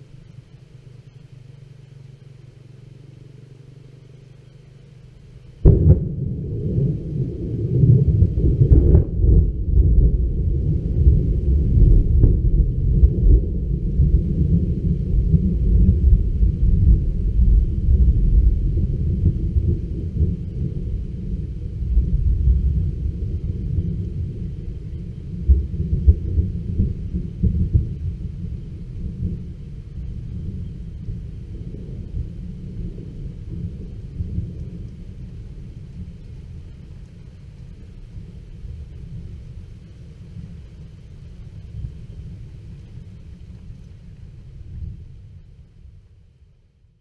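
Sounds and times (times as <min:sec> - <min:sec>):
thunder rumbling: 0:05.4 - 0:46.0.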